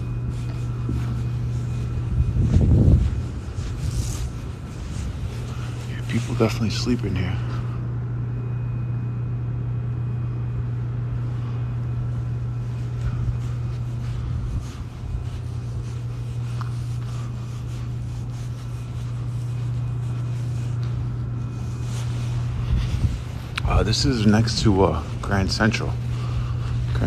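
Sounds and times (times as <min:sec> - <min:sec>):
continuous rumble: 0:00.0 - 0:27.0
steady low hum: 0:00.0 - 0:27.0.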